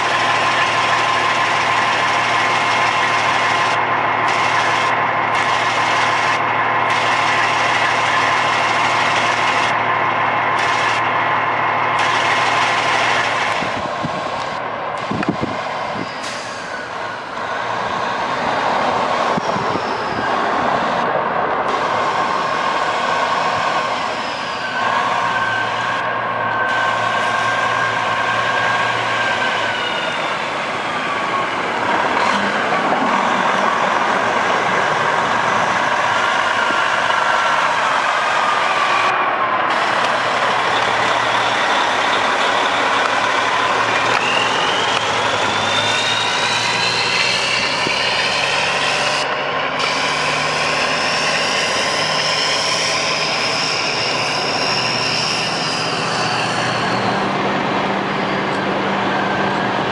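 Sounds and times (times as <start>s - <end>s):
high whine: 0.0s - 59.9s
truck diesel engine running: 0.0s - 59.9s.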